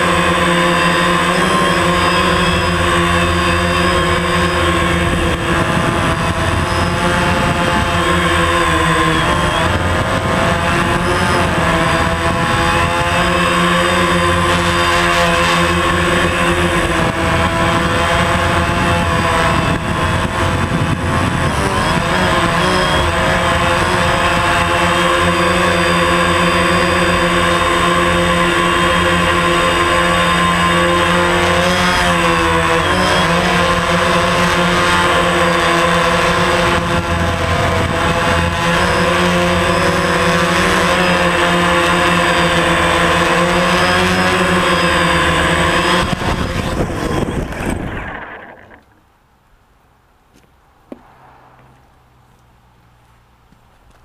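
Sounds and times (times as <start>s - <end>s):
propeller wash: 0.0s - 49.0s
drone motors whining: 0.0s - 49.1s.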